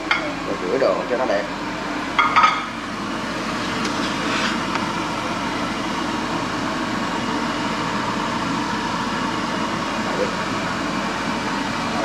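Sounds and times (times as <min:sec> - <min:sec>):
kitchen exhaust fan running: 0:00.0 - 0:12.0.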